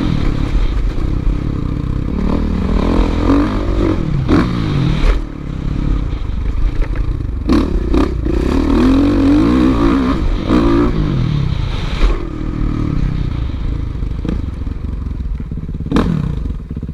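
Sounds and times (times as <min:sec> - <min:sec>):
motocross bike engine revving: 0:00.0 - 0:06.2, 0:07.2 - 0:14.5, 0:15.6 - 0:16.9.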